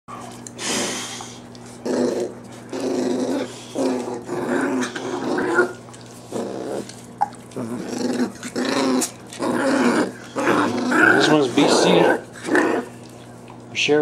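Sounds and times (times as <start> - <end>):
puppies play-growling: 0.1 - 13.7.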